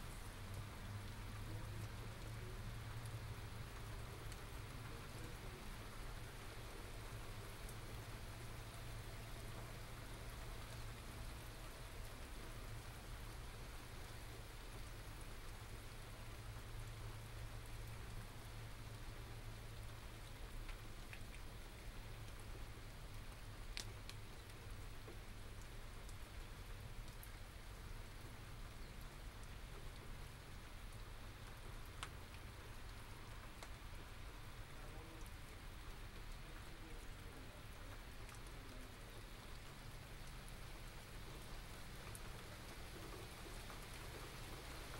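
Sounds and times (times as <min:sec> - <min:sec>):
raindrops ticking: 0:00.0 - 0:44.9
steady rain hiss: 0:00.0 - 0:44.9.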